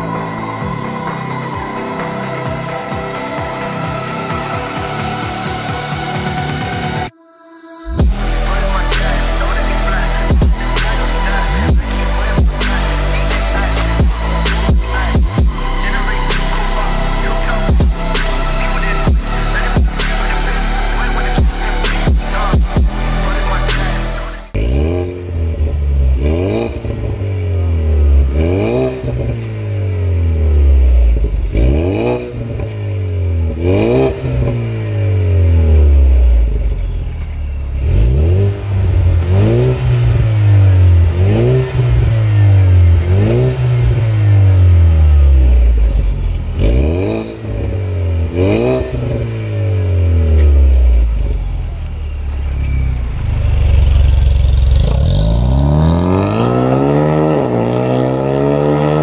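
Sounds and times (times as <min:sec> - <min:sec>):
car engine revving: 0:07.8 - 0:59.0.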